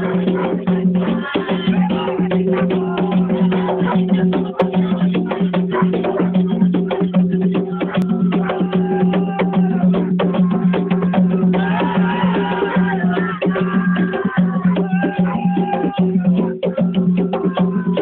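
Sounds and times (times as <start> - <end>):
hand drums: 0.0 - 18.0
wood-block-like percussion: 0.0 - 18.0.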